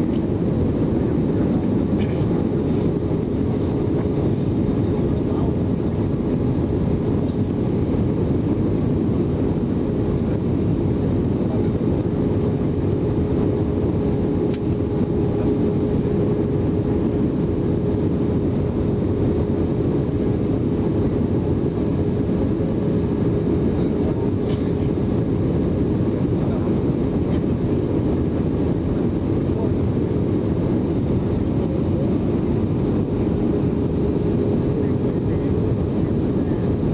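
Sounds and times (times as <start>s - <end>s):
airliner cabin roar: 0.0s - 36.9s
constant hum: 0.0s - 36.9s.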